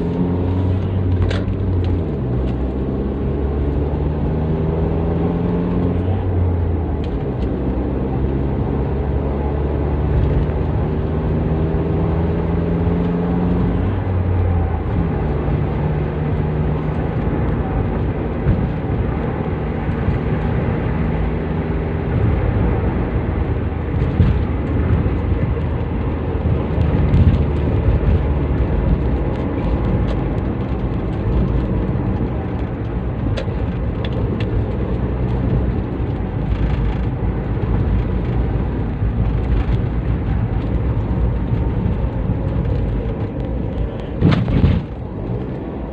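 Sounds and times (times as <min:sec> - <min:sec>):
car engine and exhaust: 0:00.0 - 0:45.9
low rumble: 0:00.0 - 0:45.9.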